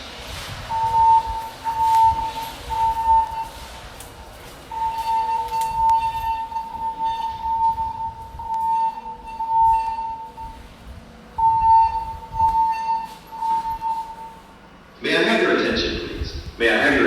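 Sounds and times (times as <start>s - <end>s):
fire alarm high pulsing tone: 0.7s - 14.7s.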